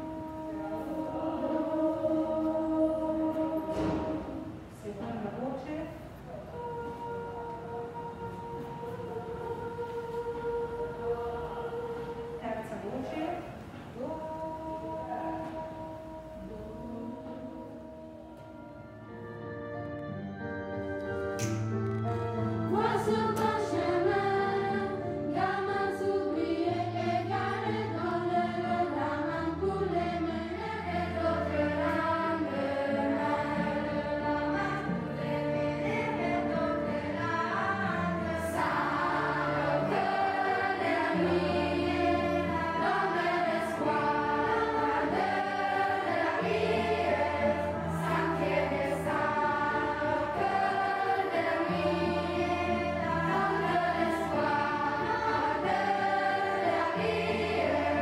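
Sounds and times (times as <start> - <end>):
choir of young voices singing: 0.0 - 5.5, 6.1 - 19.4, 21.3 - 58.0.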